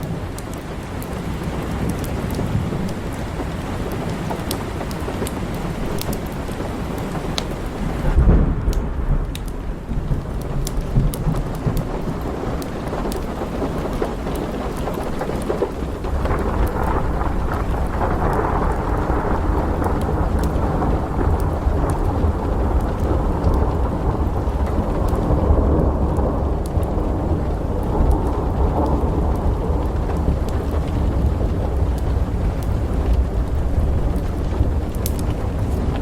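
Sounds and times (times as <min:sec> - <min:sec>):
small crackles: 0:00.0 - 0:36.0
steady rain: 0:00.0 - 0:36.0
thunder rumbling: 0:00.0 - 0:36.0.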